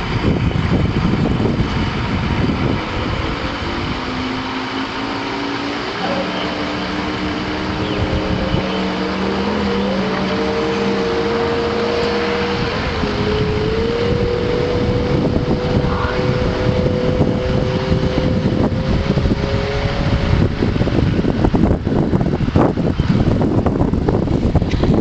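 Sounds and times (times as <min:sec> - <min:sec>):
outboard motors whining: 0:00.0 - 0:25.0
wind gusts on microphone: 0:00.0 - 0:25.0.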